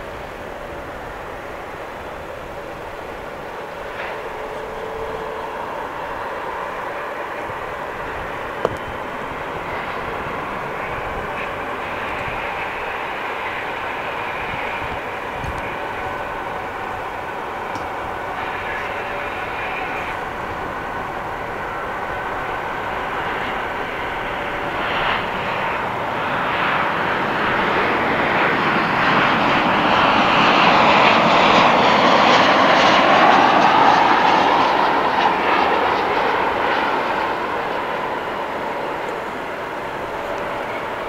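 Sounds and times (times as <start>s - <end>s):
jet engines taxiing: 0.0s - 41.0s.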